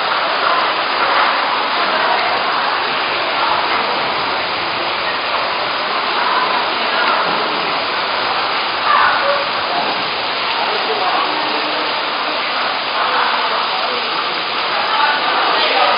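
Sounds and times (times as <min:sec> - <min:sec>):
heavy rain on pavement: 0:00.0 - 0:15.9.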